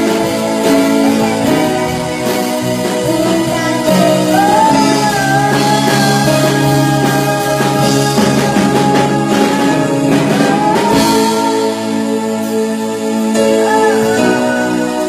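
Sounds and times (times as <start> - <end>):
child singing into a microphone: 0.0 - 11.8, 13.4 - 15.0
live band playing: 0.0 - 15.0.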